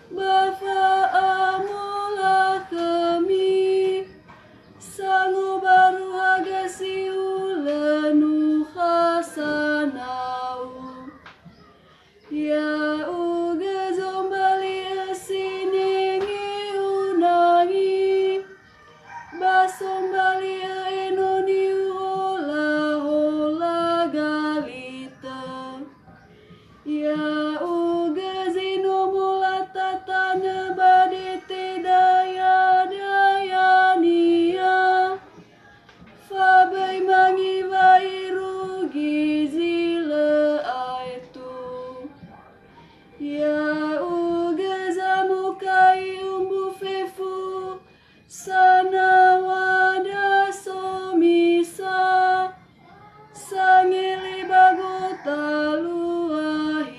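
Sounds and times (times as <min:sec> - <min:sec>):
woman chanting: 0:00.0 - 0:56.9.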